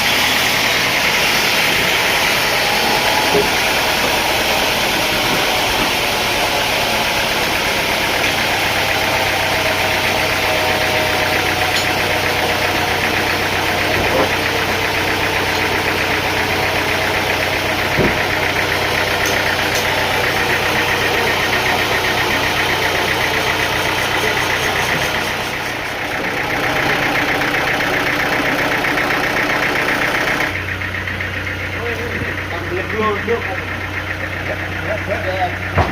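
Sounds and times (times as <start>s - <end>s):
machinery churning: 0.0s - 35.9s.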